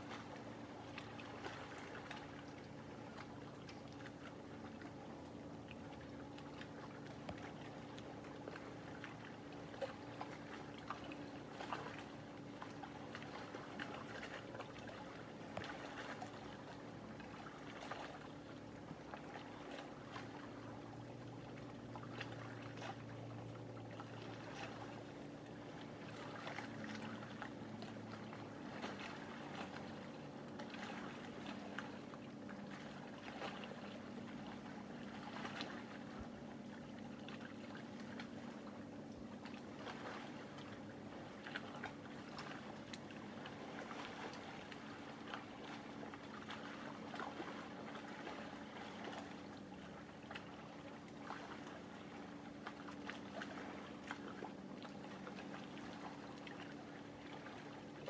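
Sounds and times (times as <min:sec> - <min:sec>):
faint low hum: 0:00.0 - 0:58.0
small waves lapping: 0:00.0 - 0:58.0.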